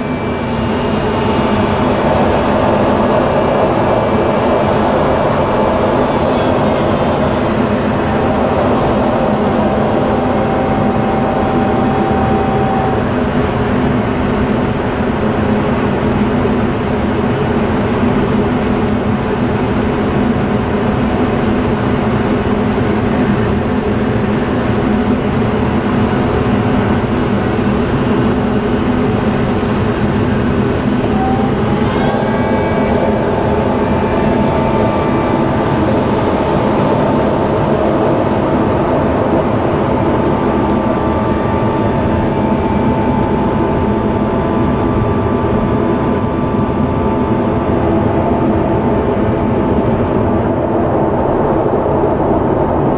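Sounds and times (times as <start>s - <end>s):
high whine: 0.0s - 52.9s
jet engine roar: 0.0s - 52.9s
low tone: 0.0s - 52.9s.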